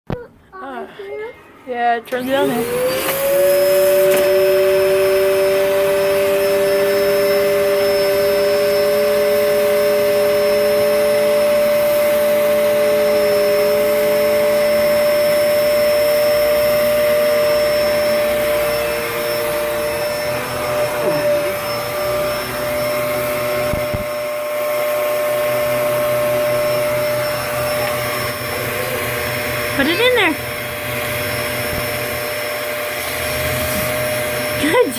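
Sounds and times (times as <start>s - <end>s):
vacuum cleaner running: 1.6s - 34.9s
lower wavering whine: 3.5s - 34.9s.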